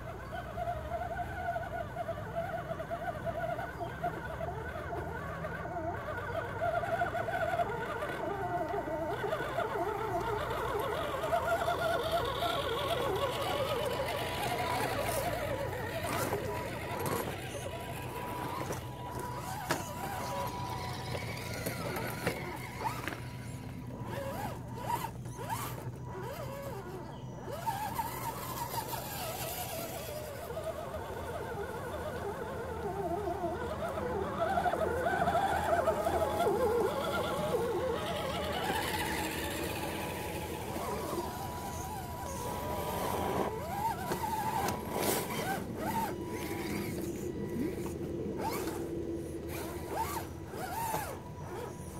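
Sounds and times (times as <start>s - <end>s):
rc truck motors whining: 0.0s - 51.9s.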